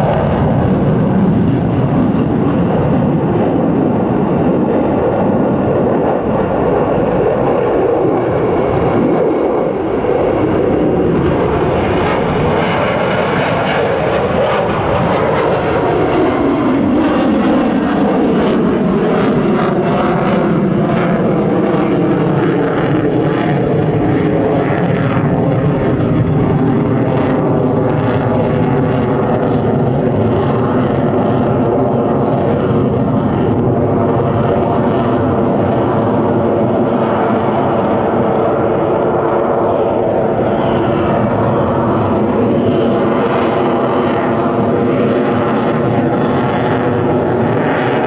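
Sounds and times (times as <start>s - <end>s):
fighter jet roar: 0.0s - 48.0s.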